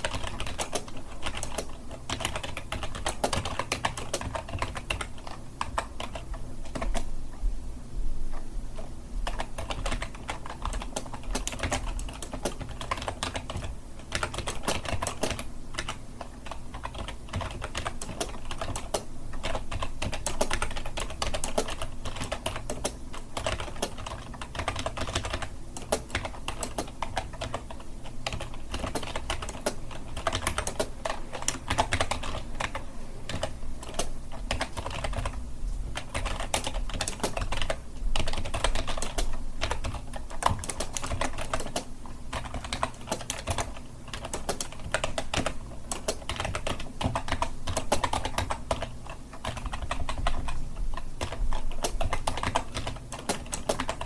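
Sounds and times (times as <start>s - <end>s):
computer keyboard typing: 0.0s - 7.1s, 8.3s - 54.0s.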